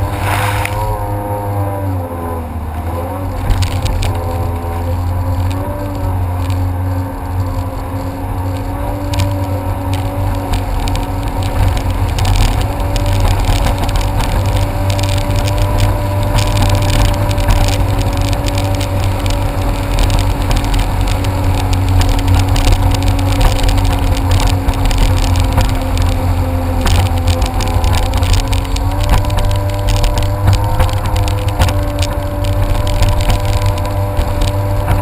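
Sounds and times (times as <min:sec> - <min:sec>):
jet ski engine running: 0:00.0 - 0:35.0.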